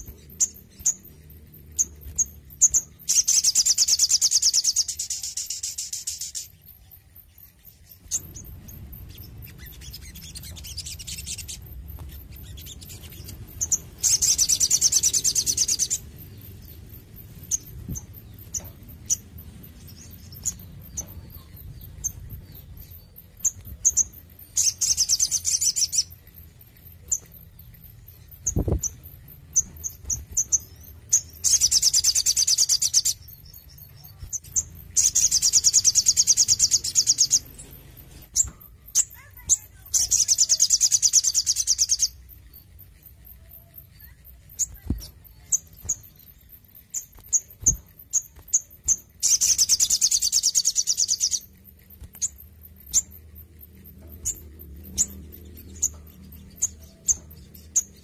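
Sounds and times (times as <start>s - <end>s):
bird sharp chips: 0.0s - 58.0s
sunbird singing trilled phrases: 0.0s - 58.0s.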